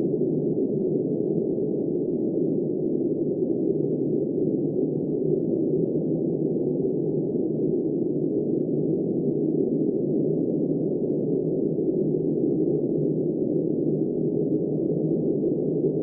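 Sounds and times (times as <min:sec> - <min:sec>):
muffled wind noise: 0:00.0 - 0:16.0.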